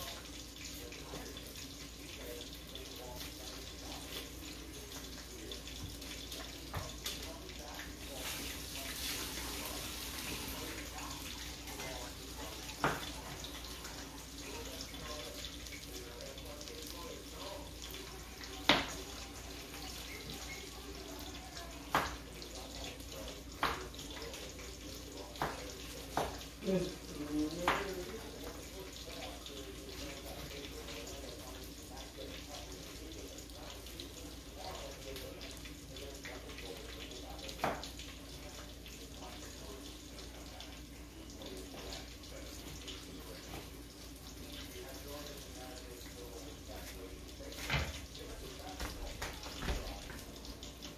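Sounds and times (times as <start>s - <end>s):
sauce hissing in a frying pan: 0.0s - 47.6s
faint voices: 0.0s - 50.9s.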